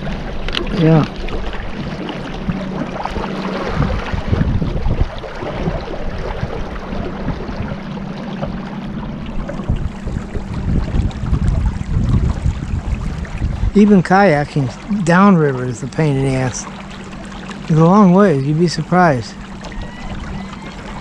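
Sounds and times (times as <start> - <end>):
motorboat engine humming: 0.0 - 21.0
rushing water: 0.0 - 21.0
wind: 0.0 - 21.0.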